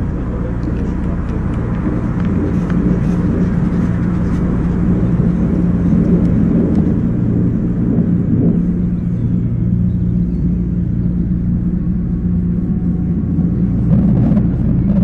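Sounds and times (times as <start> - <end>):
deep low drone: 0.0 - 15.0.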